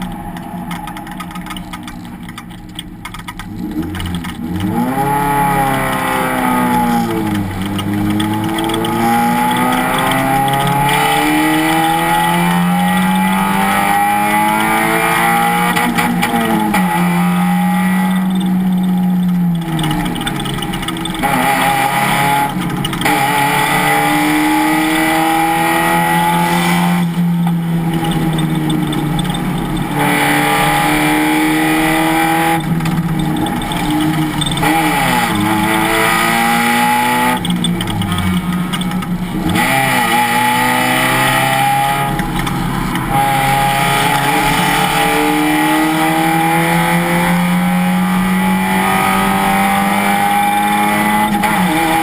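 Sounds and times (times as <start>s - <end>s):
race car engine revving: 2.8s - 52.0s.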